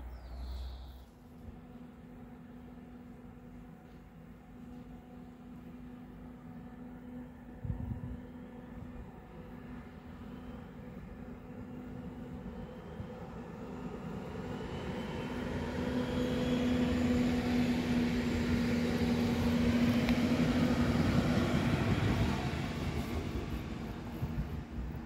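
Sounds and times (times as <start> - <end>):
train droning hum: 0.0 - 25.0
train passing close by: 0.0 - 25.0.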